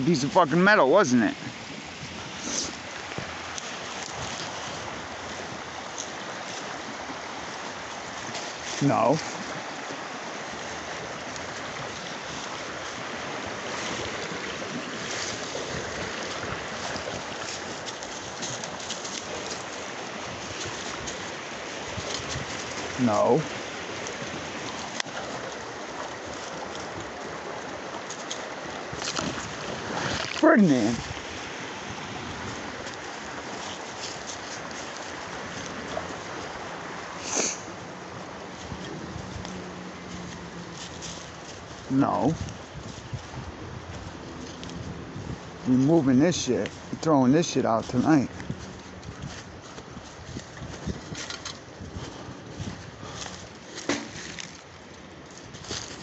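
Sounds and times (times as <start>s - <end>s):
river rushing: 0.0s - 56.0s
wind buffeting microphone: 0.0s - 56.0s
footsteps crunching dry leaves: 7.9s - 45.7s, 46.6s - 56.0s.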